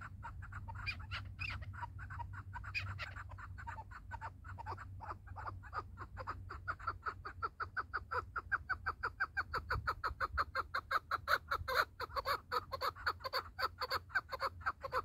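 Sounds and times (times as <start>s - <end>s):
partridge calling chuk notes: 0.0s - 15.0s.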